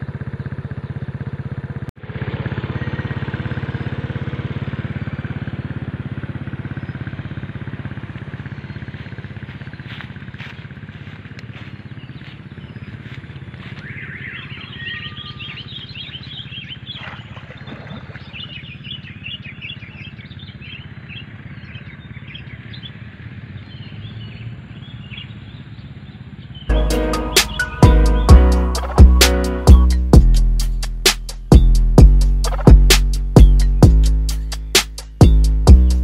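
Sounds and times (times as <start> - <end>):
low motor drone: 0.0 - 36.0
small birds chirping: 2.7 - 36.0.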